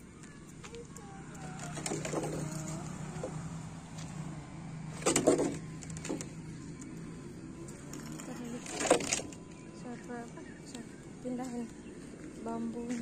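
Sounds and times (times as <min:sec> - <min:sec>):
birds chirping: 0:00.0 - 0:13.0
low engine hum: 0:00.0 - 0:13.0.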